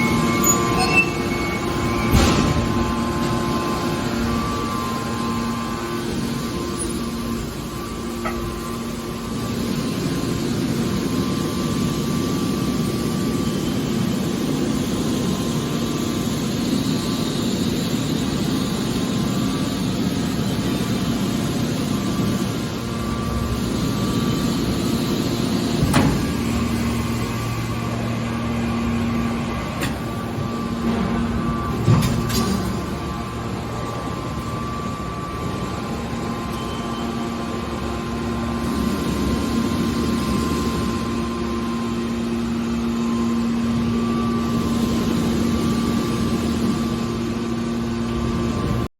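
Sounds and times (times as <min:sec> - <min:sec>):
baler machine humming: 0:00.0 - 0:48.8.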